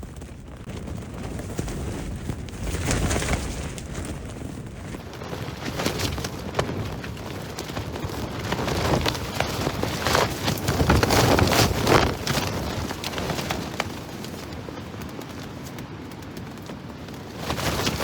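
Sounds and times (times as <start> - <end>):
strong wind gusting: 0.0 - 18.0
tent fabric flapping: 0.0 - 18.0.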